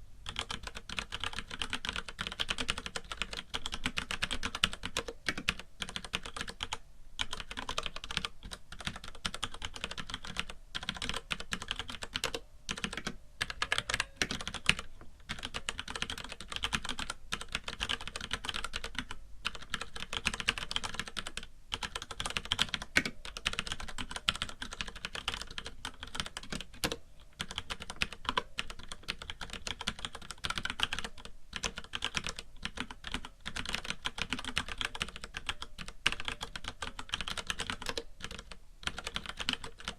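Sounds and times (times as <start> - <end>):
mechanical keyboard typing: 0.2 - 39.9.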